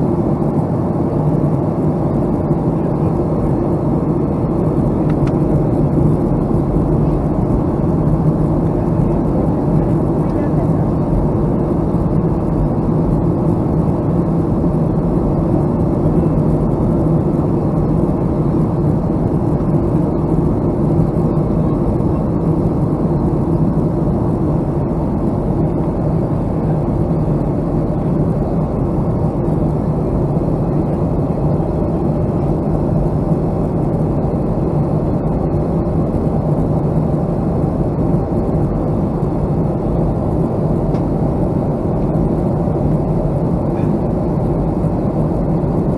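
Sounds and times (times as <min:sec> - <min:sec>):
airplane cabin engine rush: 0:00.0 - 0:45.9
constant low hum: 0:00.0 - 0:45.9.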